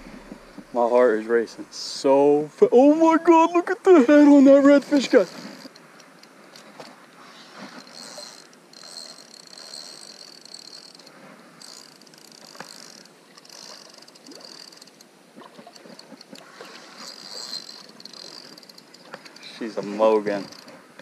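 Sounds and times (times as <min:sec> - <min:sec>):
fishing reel whirring and clicking: 0:04.1 - 0:21.0.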